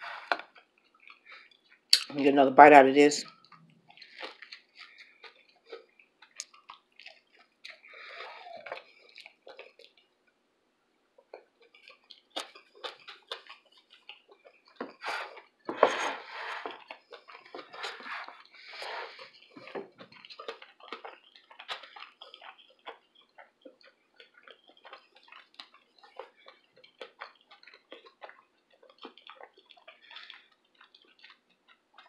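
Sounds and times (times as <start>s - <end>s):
person chewing food: 0.0s - 2.1s, 3.2s - 32.0s
wet mouth clicks and smacks: 0.2s - 2.2s, 3.2s - 10.1s, 11.3s - 15.5s, 16.6s - 32.0s.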